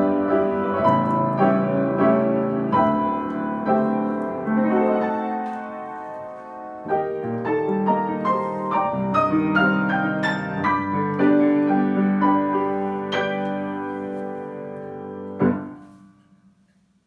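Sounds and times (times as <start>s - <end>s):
slow piano piece: 0.0s - 17.0s.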